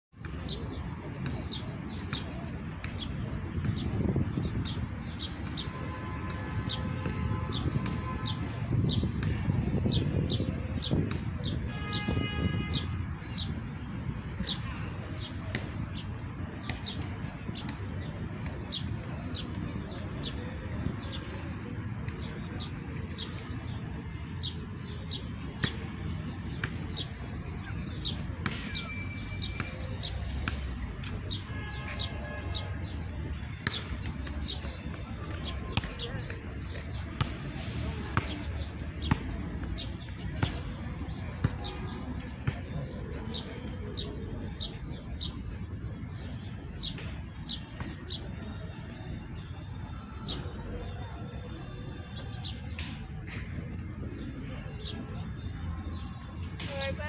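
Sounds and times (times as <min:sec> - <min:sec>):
sparrows chirping: 0:00.2 - 0:57.0.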